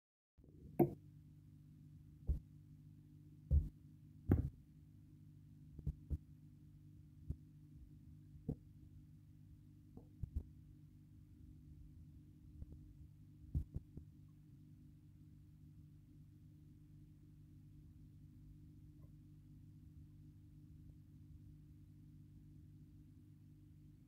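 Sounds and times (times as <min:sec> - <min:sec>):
steady low hum: 0:00.5 - 0:24.0.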